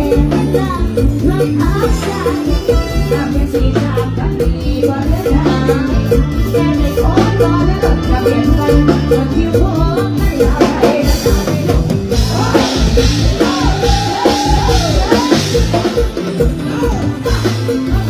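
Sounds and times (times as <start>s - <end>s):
drum kit and bass beat: 0.0s - 18.0s
woman singing: 0.0s - 18.0s.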